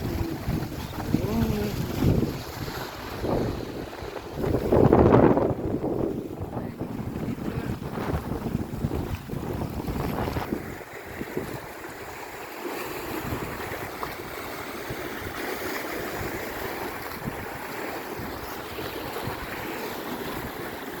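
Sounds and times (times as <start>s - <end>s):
wind buffeting microphone: 0.0s - 12.2s, 13.0s - 21.0s
sea waves washing ashore: 0.0s - 21.0s.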